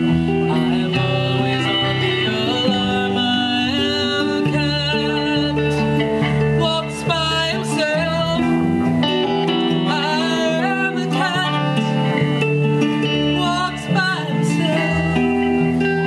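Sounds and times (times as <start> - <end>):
woman singing: 0.0 - 8.8, 9.8 - 12.2, 13.2 - 16.0
electric bass: 0.0 - 16.0
electric guitars: 0.0 - 16.0.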